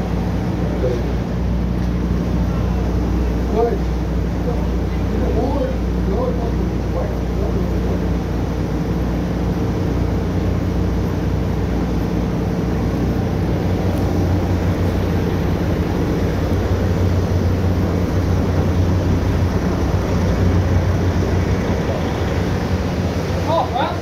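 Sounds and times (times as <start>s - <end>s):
loud machinery drone: 0.0s - 24.0s.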